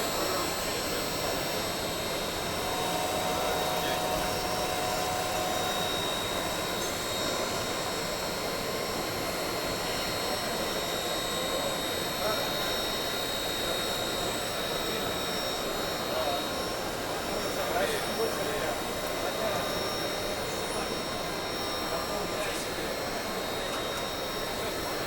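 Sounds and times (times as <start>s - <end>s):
low machine tone: 0.0s - 25.0s
milling machine whine: 0.0s - 25.0s.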